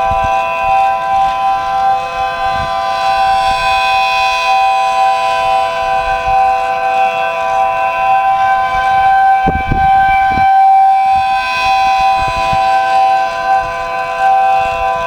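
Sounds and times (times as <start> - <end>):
wind buffeting microphone: 0.0 - 6.7, 7.4 - 15.0
rotating siren alert chord: 0.0 - 15.0.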